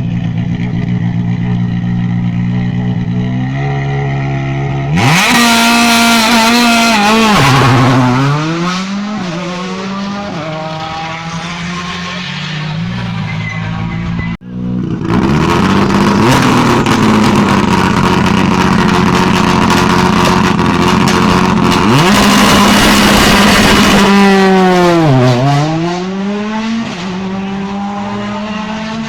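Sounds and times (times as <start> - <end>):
rally car engine accelerating: 0.0 - 29.0.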